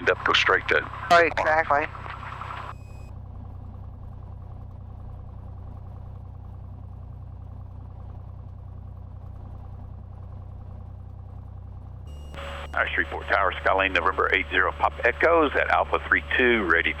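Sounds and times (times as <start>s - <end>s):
propeller plane engine idling: 0.0s - 17.0s.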